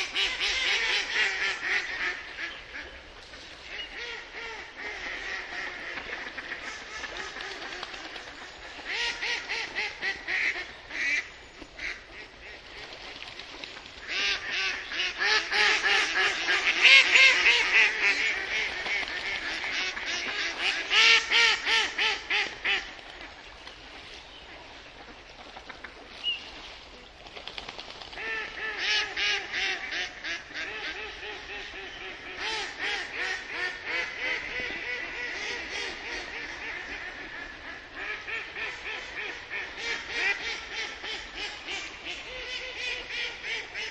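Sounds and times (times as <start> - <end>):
duck quacking: 0.0 - 2.9, 3.7 - 7.8, 8.9 - 12.6, 14.0 - 22.9, 28.2 - 43.9.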